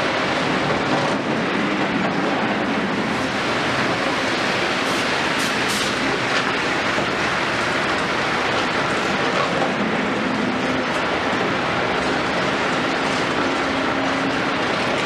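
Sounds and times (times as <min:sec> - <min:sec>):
excavator rumble and clatter: 0:00.0 - 0:15.0.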